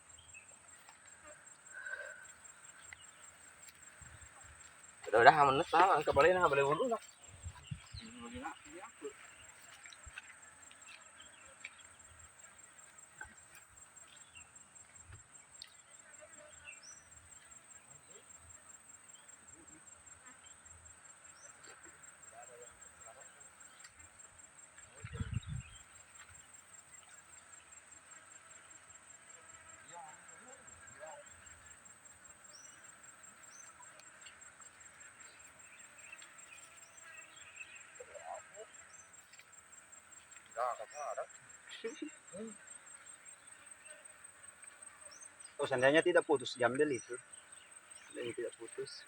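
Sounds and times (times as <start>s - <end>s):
faint chirps and ticks: 0.0s - 49.0s
pulsing insect trill: 0.0s - 49.0s.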